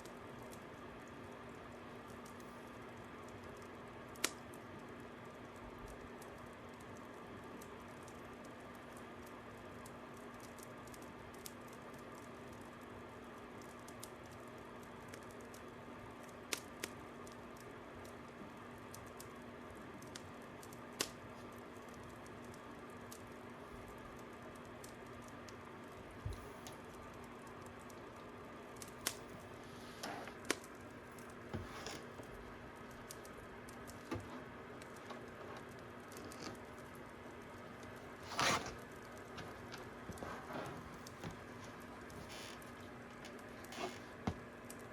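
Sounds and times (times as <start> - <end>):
fire crackling and popping: 0.0 - 44.9.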